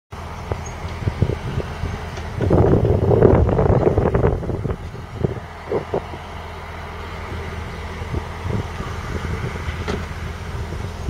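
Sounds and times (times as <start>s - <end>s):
combine harvester diesel drone: 0.1s - 11.0s
loud rush of noise: 0.2s - 11.0s.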